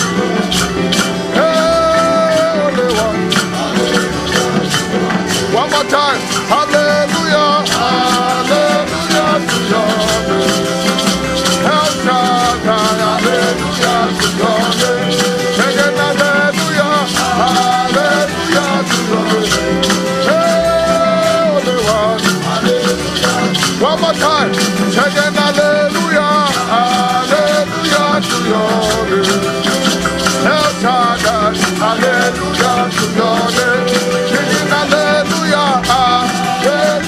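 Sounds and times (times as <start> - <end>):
fast shaker rhythm: 0.0 - 37.0
gospel band music: 0.0 - 37.0
sliding held melody notes: 0.0 - 37.0.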